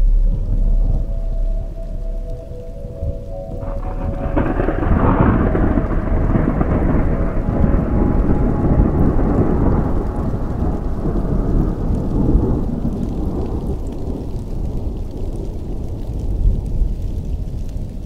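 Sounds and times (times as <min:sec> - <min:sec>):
rain: 0:00.0 - 0:18.0
rolling thunder rumble: 0:00.0 - 0:18.0.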